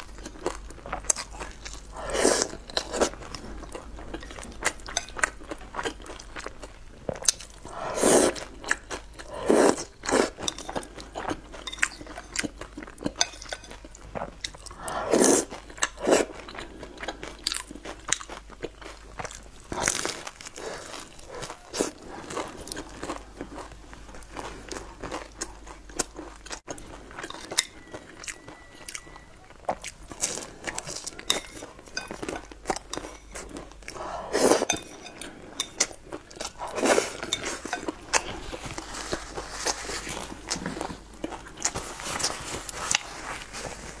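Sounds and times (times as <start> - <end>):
chewing crunchy food: 0.0 - 44.0.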